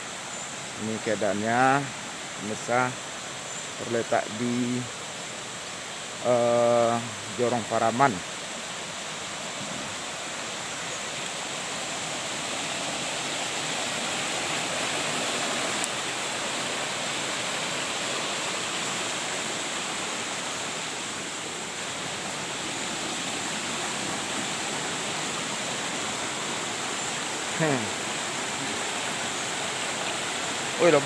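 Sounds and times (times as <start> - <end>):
stream rushing over stones: 0.0 - 31.0.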